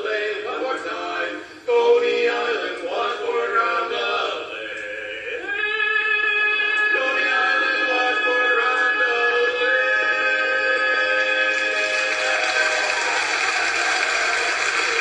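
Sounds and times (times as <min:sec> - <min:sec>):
male quartet singing in harmony: 0:00.0 - 0:13.4.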